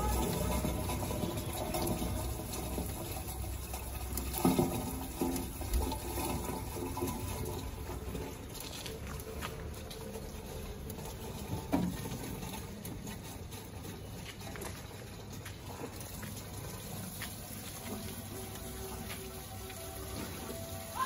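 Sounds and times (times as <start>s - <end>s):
rainwater running through downpipes: 0.0s - 21.0s.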